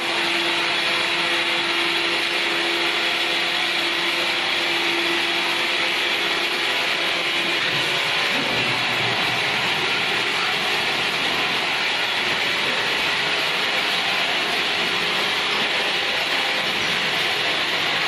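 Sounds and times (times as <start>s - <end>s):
machine rushing whir: 0.0s - 18.0s.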